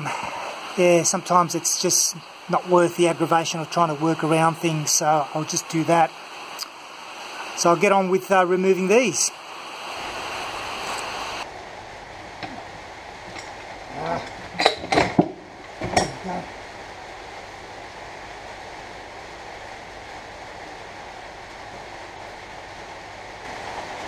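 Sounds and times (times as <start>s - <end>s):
steady low hiss: 0.0s - 24.0s.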